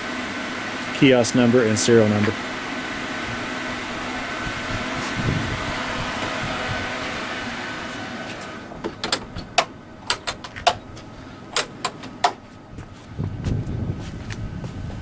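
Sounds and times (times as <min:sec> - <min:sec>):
whirring hum: 0:00.0 - 0:15.0.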